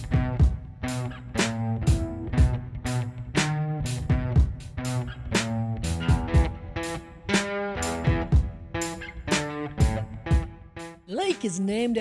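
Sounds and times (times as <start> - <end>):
guitar and bass music: 0.0 - 11.1.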